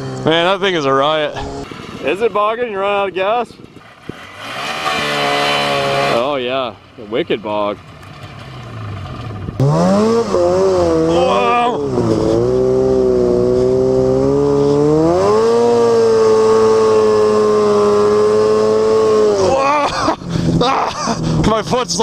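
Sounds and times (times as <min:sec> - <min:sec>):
snowmobile engine revving: 0:00.0 - 0:01.7, 0:02.9 - 0:07.8, 0:08.5 - 0:22.0.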